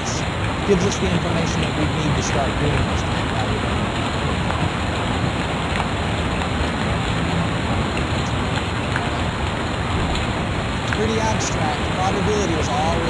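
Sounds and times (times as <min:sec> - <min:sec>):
steady loud hiss: 0:00.0 - 0:13.0.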